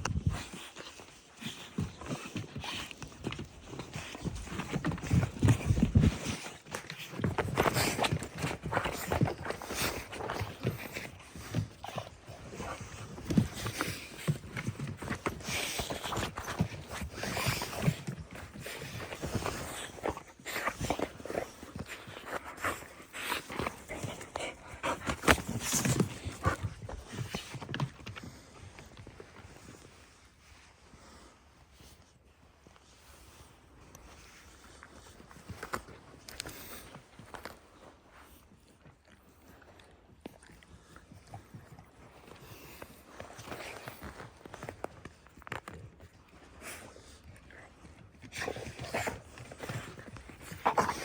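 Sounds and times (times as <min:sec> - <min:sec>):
dogs' paws tapping and scuffing: 0:00.0 - 0:51.0
rustling: 0:00.0 - 0:51.0.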